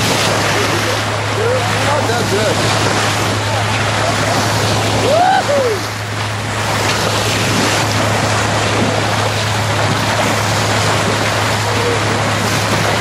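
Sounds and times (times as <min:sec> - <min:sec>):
water and wind rushing: 0:00.0 - 0:13.0.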